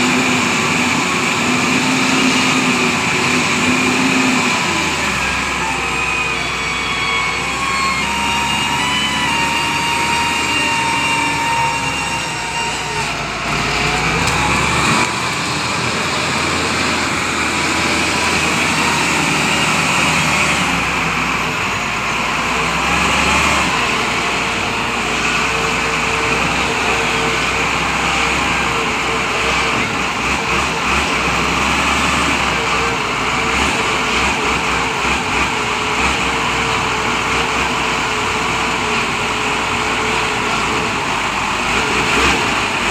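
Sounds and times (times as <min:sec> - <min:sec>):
traffic noise: 0:00.0 - 0:42.9
vehicle engine: 0:00.0 - 0:42.9.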